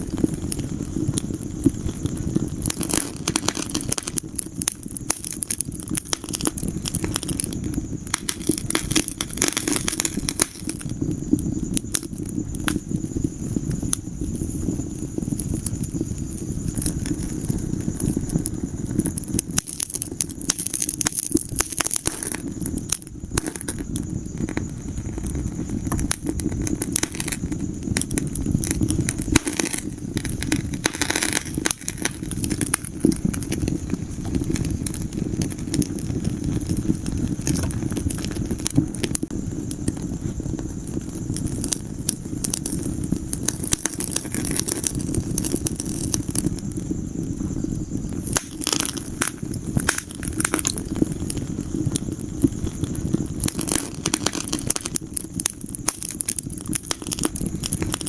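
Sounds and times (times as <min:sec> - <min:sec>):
fire rumbling in fireplace: 0:00.0 - 0:58.0
logs crackling and popping: 0:00.0 - 0:58.0.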